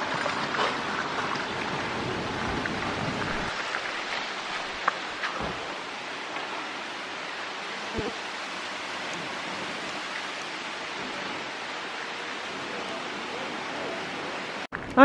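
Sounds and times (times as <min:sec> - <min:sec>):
river water rushing: 0:00.0 - 0:14.7.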